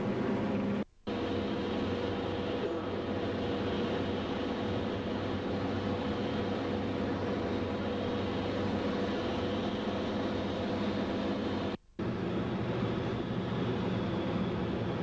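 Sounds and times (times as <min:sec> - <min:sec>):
aircraft engine drone in cabin: 0:00.0 - 0:15.0
constant high whine: 0:00.0 - 0:15.0.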